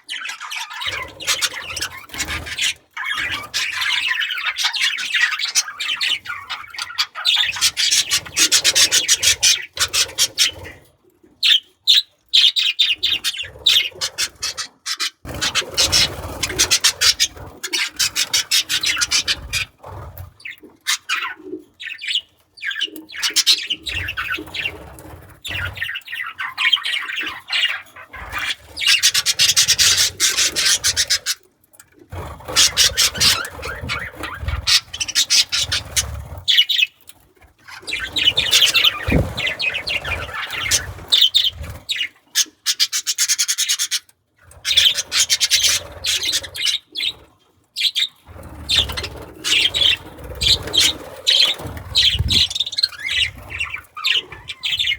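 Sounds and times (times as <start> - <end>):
budgerigars chattering and warbling: 0.0 - 31.4, 32.1 - 37.0, 37.7 - 47.2, 47.8 - 54.9.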